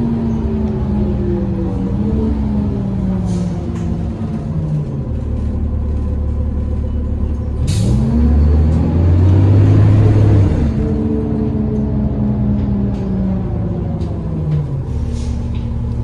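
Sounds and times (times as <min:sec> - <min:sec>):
bus engine droning: 0:00.0 - 0:16.0.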